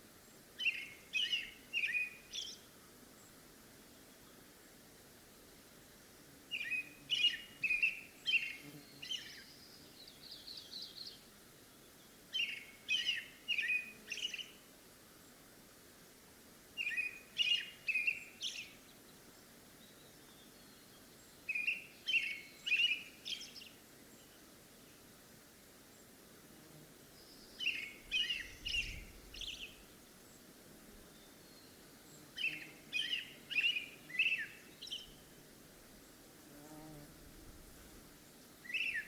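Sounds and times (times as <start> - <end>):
songbird singing: 0.2 - 4.5, 5.4 - 15.4, 16.8 - 25.2, 27.0 - 39.0.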